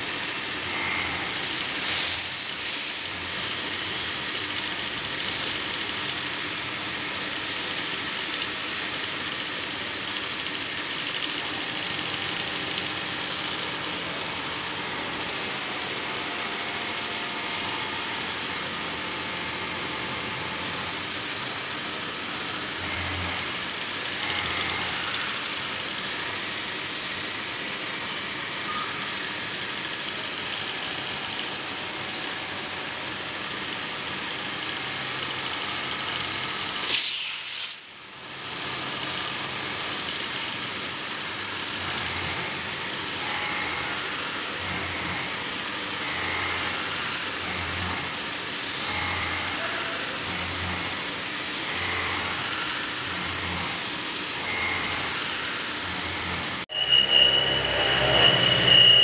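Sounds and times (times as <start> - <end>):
milling machine cutting metal: 0.0 - 37.2, 38.2 - 59.0
other machines running: 0.0 - 59.0.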